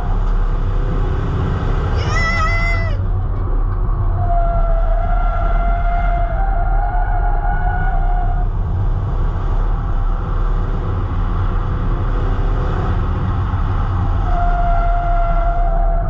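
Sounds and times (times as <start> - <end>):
stock car engines rumbling: 0.0 - 16.0.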